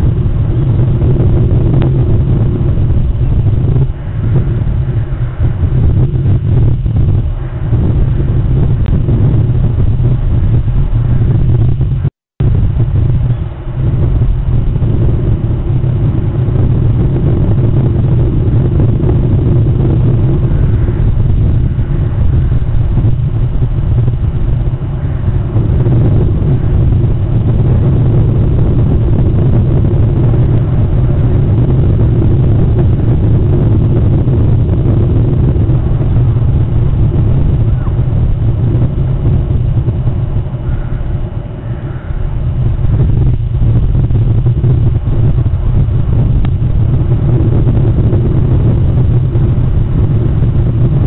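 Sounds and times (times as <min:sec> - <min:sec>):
loud low rumble: 0:00.0 - 0:51.0.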